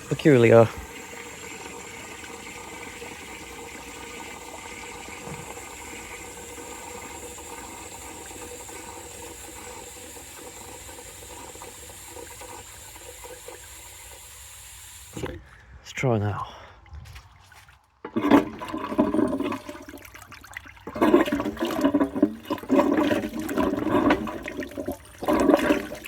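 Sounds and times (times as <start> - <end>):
water filling toilet cistern: 0.0 - 15.4, 18.0 - 26.0.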